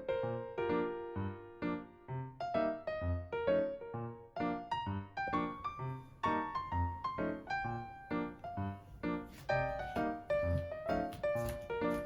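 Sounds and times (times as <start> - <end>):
keyboard melody: 0.0 - 12.0.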